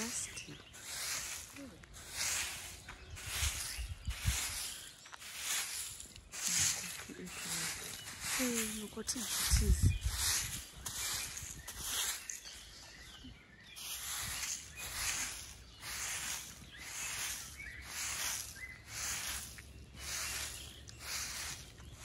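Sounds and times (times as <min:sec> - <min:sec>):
broom sweeping ground: 0:00.0 - 0:22.0.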